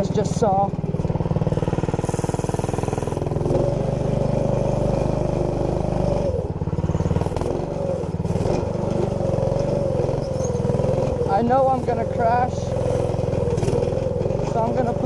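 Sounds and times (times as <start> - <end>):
small engine puttering: 0.0 - 15.0.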